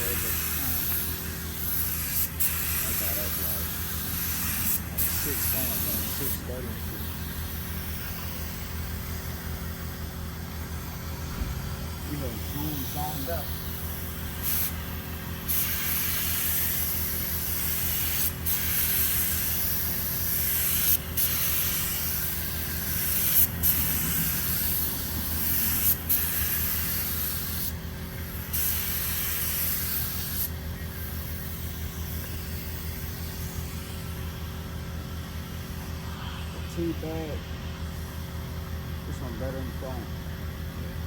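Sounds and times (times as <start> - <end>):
paint spray gun hissing: 0.0 - 38.2
steady low hum: 0.0 - 41.0.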